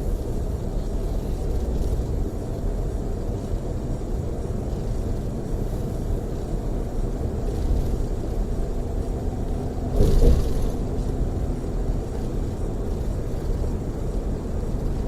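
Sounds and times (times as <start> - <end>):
coach engine and tyre rumble: 0.0 - 15.0.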